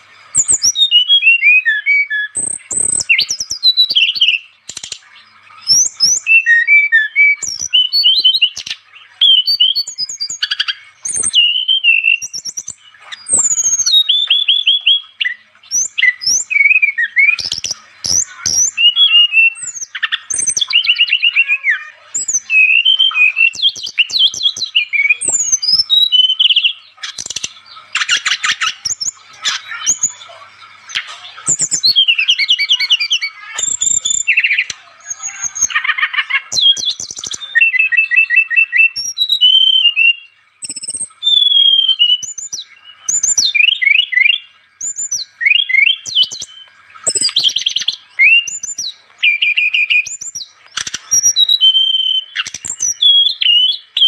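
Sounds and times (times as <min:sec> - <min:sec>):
bird song with whistles and trills: 0:00.0 - 0:54.0.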